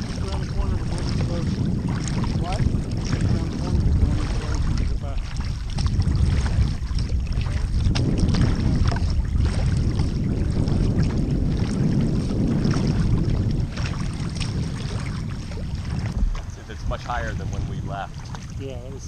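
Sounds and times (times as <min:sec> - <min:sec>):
paddle strokes splashing: 0:00.0 - 0:19.0
water washing along hull: 0:00.0 - 0:19.0
wind buffeting microphone: 0:00.0 - 0:19.0.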